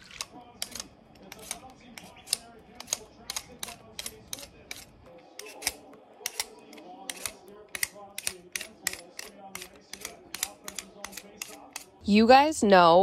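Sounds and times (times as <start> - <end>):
vegetable peeler scraping: 0.0 - 12.0.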